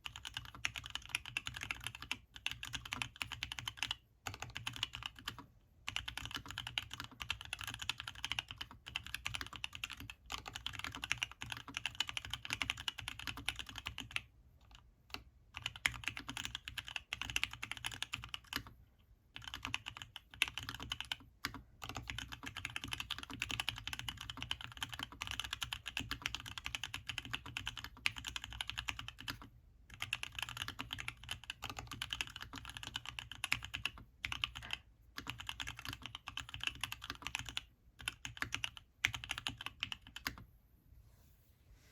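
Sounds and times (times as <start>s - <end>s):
fast typing on mechanical keyboard: 0.0s - 40.4s.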